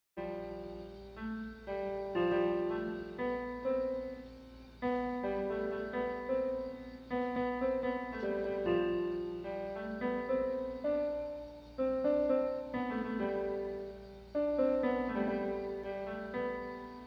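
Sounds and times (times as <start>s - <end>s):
piano playing slow melody: 0.2s - 17.0s.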